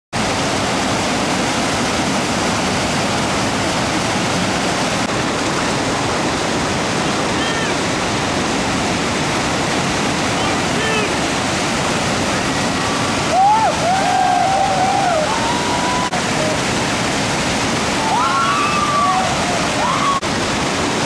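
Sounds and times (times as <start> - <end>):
whitewater rushing: 0.2 - 21.0.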